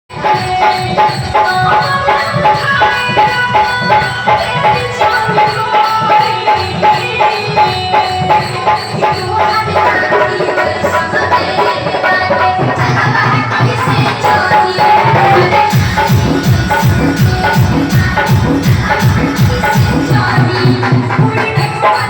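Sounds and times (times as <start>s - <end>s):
loud music with steady beat: 0.1s - 22.0s.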